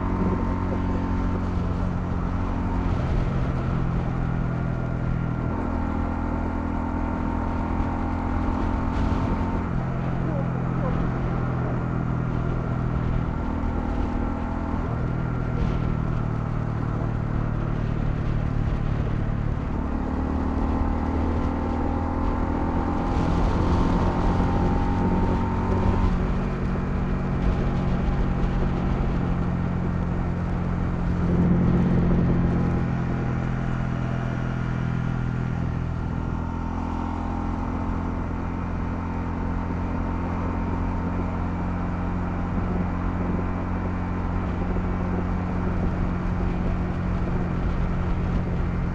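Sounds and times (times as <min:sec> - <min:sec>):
motorcycle engine revving: 0:00.0 - 0:48.9
wind and road noise: 0:00.0 - 0:48.9.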